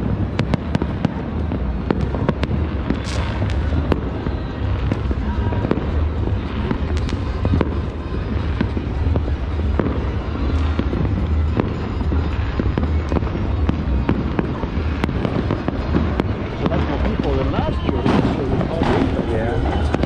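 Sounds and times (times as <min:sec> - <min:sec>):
fireworks bangs and pops: 0:00.0 - 0:20.0
low rumble: 0:00.0 - 0:20.0.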